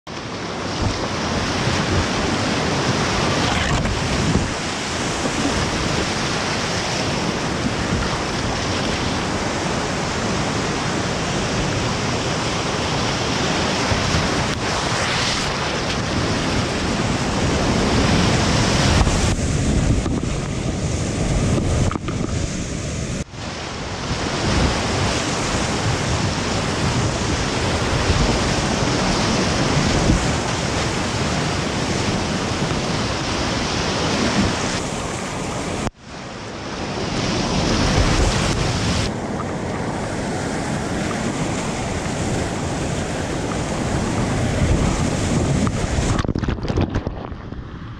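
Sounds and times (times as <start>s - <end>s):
rushing whitewater: 0.1s - 46.3s
wind on microphone: 0.3s - 47.9s.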